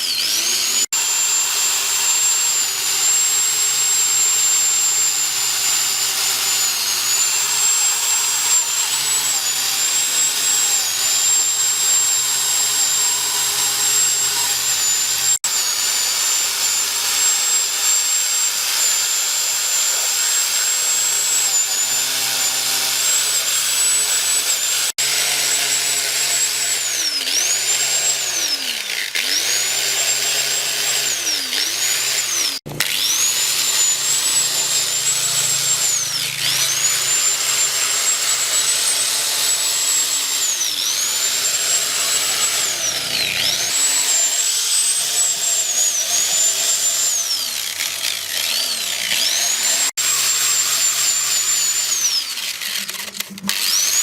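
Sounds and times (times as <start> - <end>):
power tool motor whining: 0.0 - 54.0.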